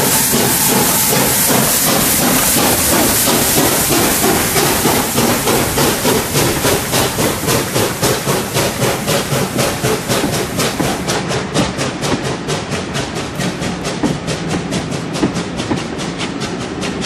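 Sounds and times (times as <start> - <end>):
coaches rolling on rails: 0.0 - 17.0
steam hiss: 0.0 - 17.0
steam locomotive exhaust beats: 0.0 - 17.0.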